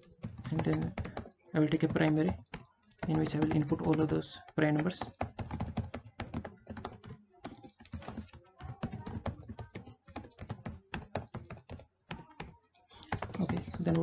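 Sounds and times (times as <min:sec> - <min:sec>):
typing on computer keyboard: 0:00.0 - 0:14.0.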